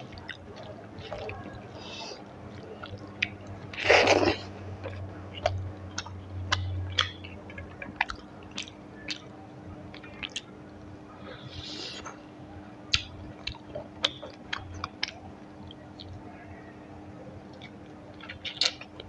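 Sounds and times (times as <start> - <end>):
wet chewing and mouth smacks: 0.0 - 9.3, 9.9 - 12.2, 12.9 - 16.2, 17.5 - 19.0.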